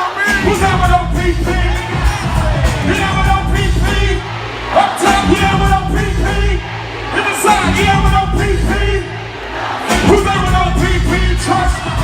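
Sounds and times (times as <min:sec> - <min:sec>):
heavy bass beat: 0:00.0 - 0:12.0
rapping vocals and yells: 0:00.0 - 0:12.0.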